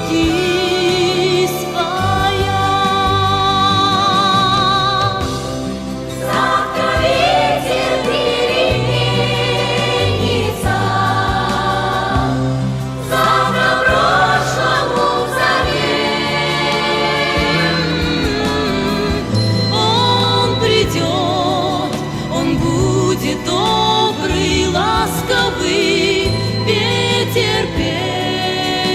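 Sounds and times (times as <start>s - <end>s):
choir singing with accompaniment: 0.0s - 28.9s.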